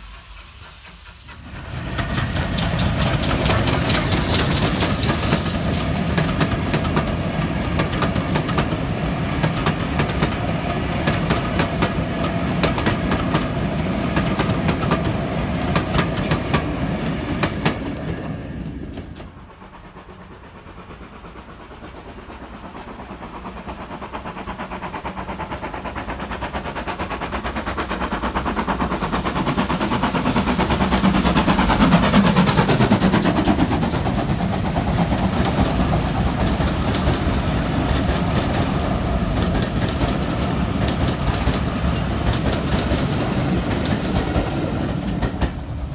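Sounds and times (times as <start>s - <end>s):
steam train approaching: 0.0s - 45.9s
train wheels clicking over rail joints: 0.0s - 45.9s.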